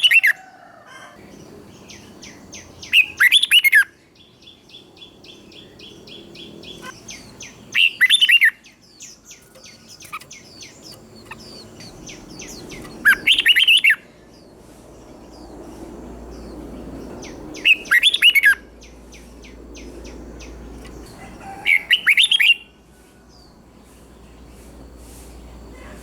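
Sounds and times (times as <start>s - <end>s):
bird singing warbling phrases: 1.4s - 22.7s.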